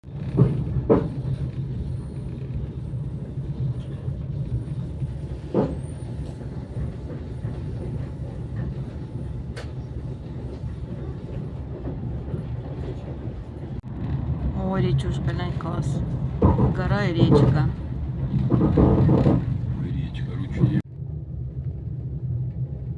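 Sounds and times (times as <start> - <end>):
train low rumble: 0.0 - 22.9.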